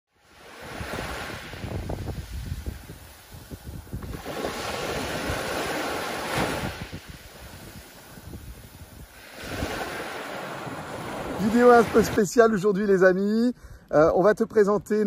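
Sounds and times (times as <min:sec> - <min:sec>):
small waves breaking on beach: 0:00.1 - 0:12.4.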